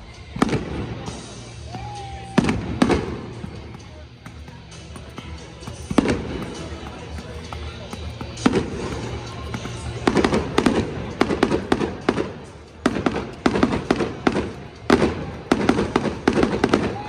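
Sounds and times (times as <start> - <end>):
fireworks bangs and crackle: 0.0 - 17.0
music playing: 0.0 - 17.0.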